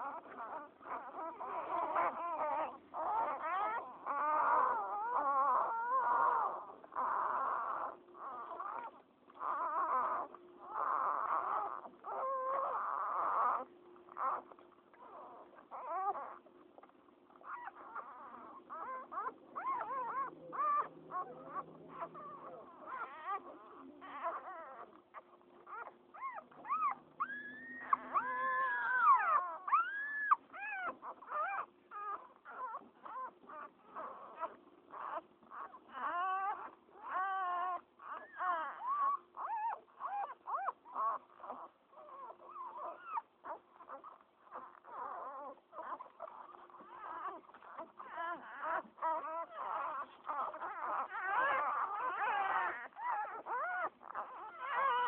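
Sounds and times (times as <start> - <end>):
puppies squeaking and whimpering: 0.0 - 55.0.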